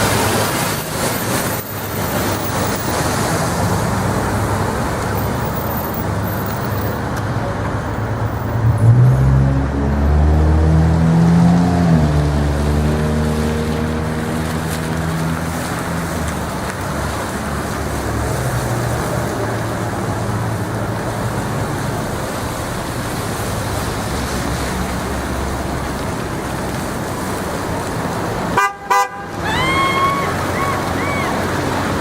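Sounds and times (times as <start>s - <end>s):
rush of road traffic: 0.0s - 32.0s
vehicle engine passing: 0.0s - 32.0s.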